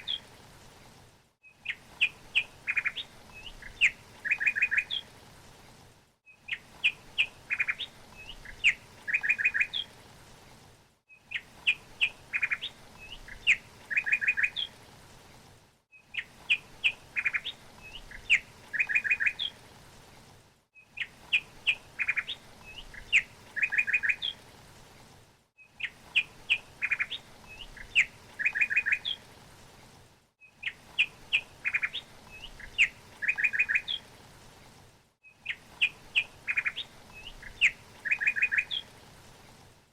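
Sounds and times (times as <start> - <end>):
songbird chirps and trills: 0.0 - 0.4, 1.4 - 5.6, 6.2 - 10.1, 11.1 - 15.0, 15.9 - 25.0, 25.6 - 29.4, 30.4 - 34.3, 35.2 - 39.0
faint steady hiss: 0.0 - 39.9.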